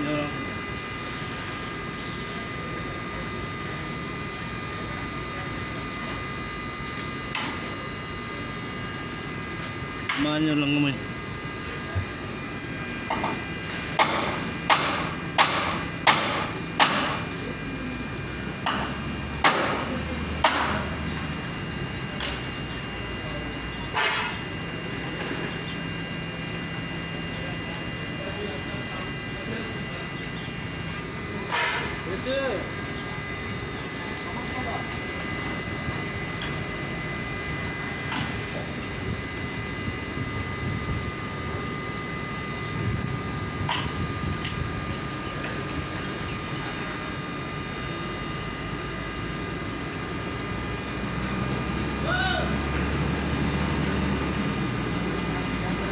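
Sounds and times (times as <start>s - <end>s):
constant high whine: 0.0s - 55.9s
machine low rumble: 0.0s - 55.9s.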